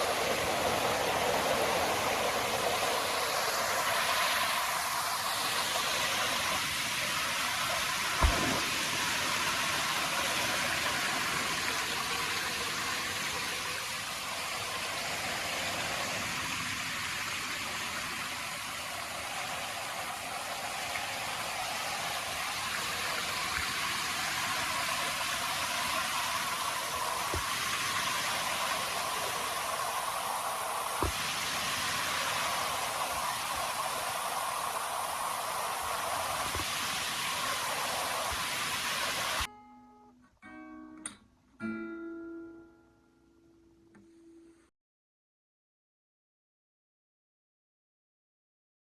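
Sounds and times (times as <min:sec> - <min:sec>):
steady outdoor hiss: 0:00.0 - 0:41.0.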